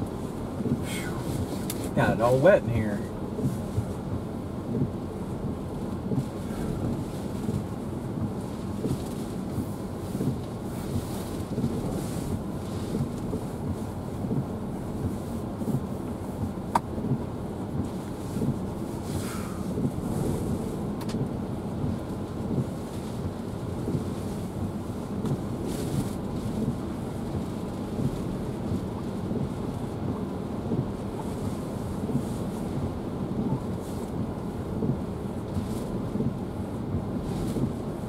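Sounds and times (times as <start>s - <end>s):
wind gusting and rain: 0.0s - 38.0s.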